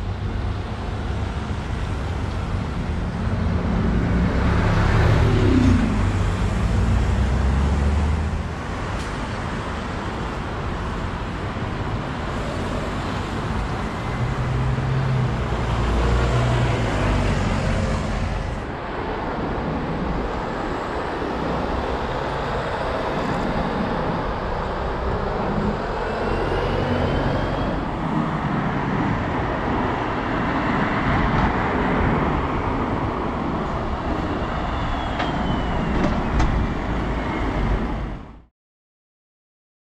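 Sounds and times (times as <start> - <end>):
cars and buses passing: 0.0 - 38.5
steady traffic noise: 0.0 - 38.5.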